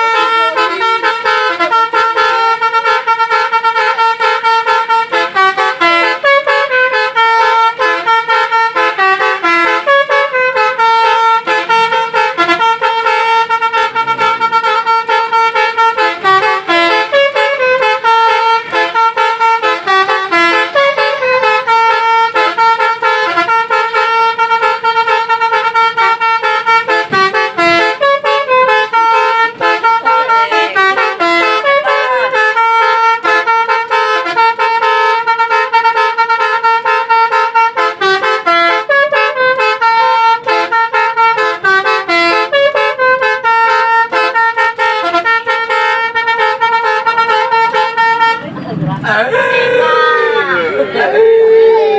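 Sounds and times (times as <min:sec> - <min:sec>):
bus horn playing a tune: 0:00.0 - 0:51.9.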